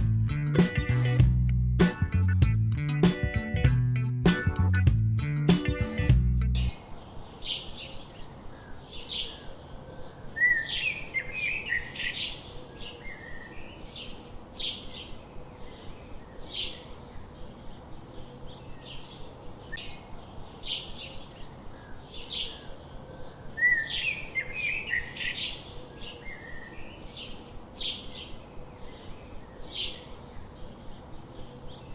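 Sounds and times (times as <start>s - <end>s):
small birds chirping: 5.5s - 31.9s.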